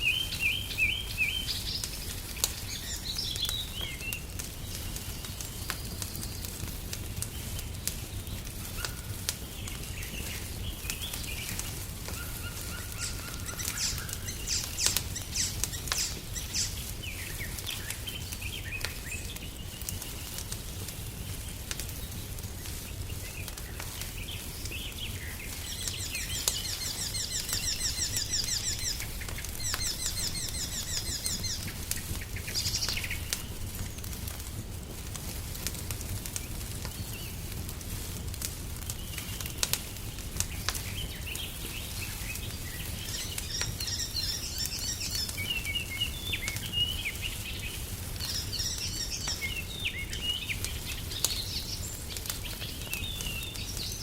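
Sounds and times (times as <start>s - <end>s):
songbirds trilling: 0.0s - 34.2s, 38.9s - 54.0s
fireplace crackling with pops: 0.0s - 54.0s.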